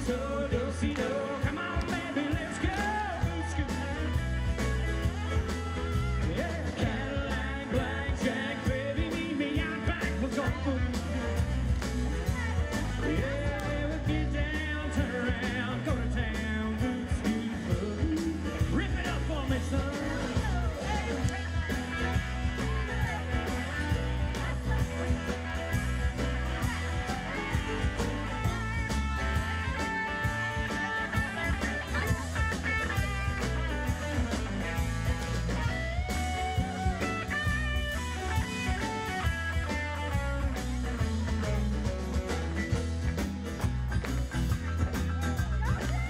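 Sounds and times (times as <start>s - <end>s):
lead guitar melody: 0.0s - 46.0s
rock band playing: 0.0s - 46.0s.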